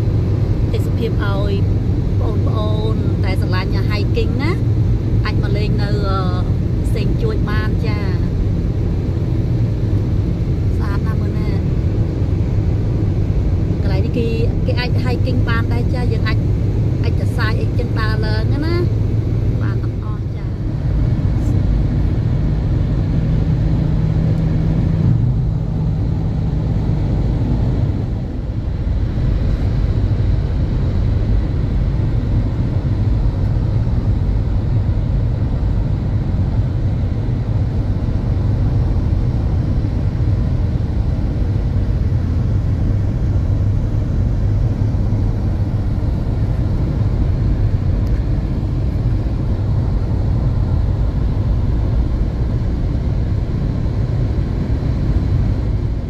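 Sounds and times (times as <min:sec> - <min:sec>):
car road noise rumble: 0:00.0 - 0:56.0
low hum: 0:00.0 - 0:56.0.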